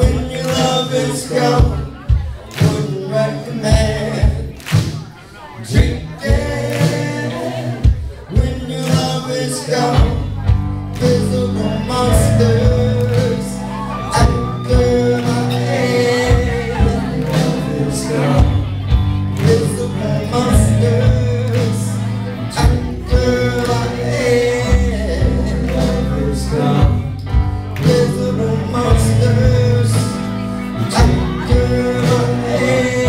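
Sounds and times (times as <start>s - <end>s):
live rock band playing: 0.0s - 33.0s
man singing: 0.0s - 33.0s.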